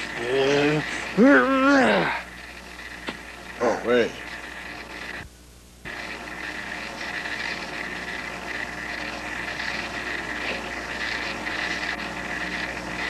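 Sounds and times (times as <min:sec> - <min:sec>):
high whine: 0:00.0 - 0:13.0
tape hiss and hum: 0:00.0 - 0:13.0.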